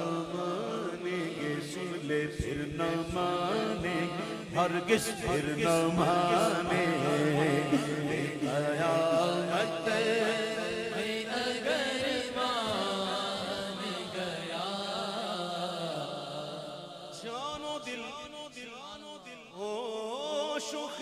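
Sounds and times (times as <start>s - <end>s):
man singing a slow chant: 0.0s - 21.0s.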